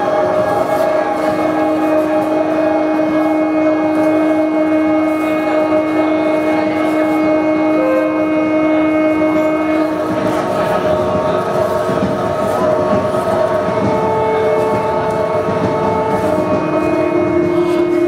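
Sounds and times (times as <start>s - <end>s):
sustained ambient drone chord: 0.0s - 11.1s, 13.6s - 18.0s
low drone note: 0.0s - 11.4s, 13.6s - 18.0s.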